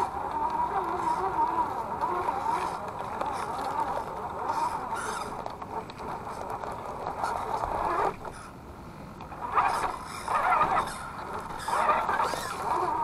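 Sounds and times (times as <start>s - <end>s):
toy car electric motor whining: 0.0s - 8.5s, 9.3s - 13.0s.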